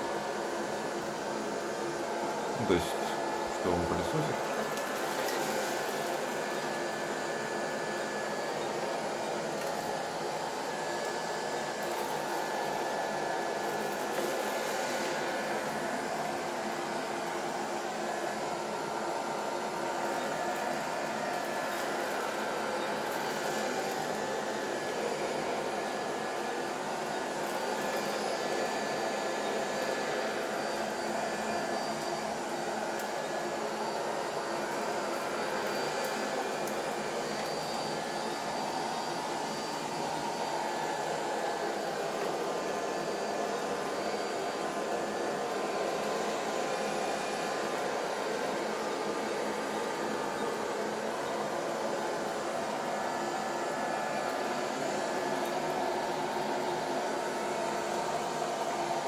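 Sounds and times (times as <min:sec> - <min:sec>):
robot vacuum humming: 0:00.0 - 0:59.0.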